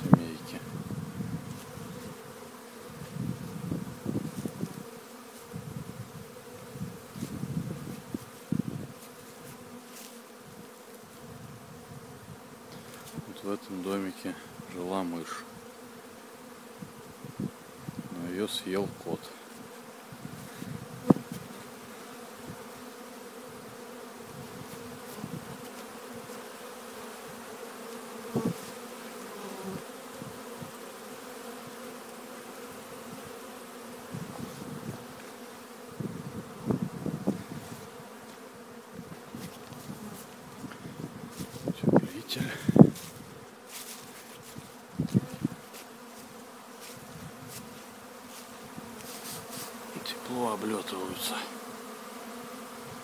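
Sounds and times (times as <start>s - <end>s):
bee flying close by: 0.0s - 53.0s
honeybees buzzing: 0.0s - 53.0s.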